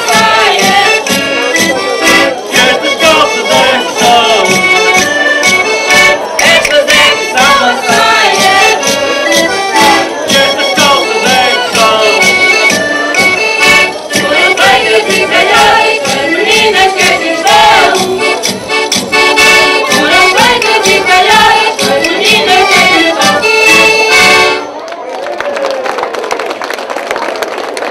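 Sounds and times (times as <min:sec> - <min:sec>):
percussion beat: 0:00.0 - 0:24.6
voices singing: 0:00.0 - 0:24.6
accordion playing lively tune: 0:00.0 - 0:24.8.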